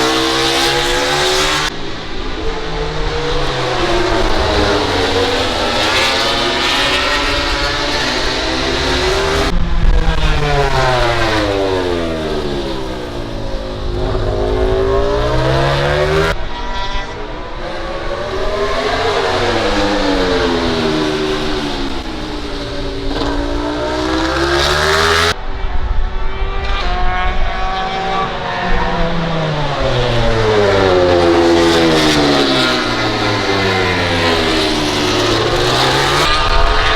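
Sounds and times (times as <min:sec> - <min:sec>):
racing motorcycles passing: 0:00.0 - 0:25.8, 0:26.4 - 0:36.9.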